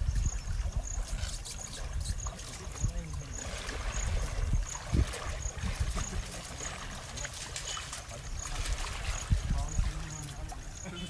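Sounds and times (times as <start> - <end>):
pond water splashing: 0.0 - 11.0.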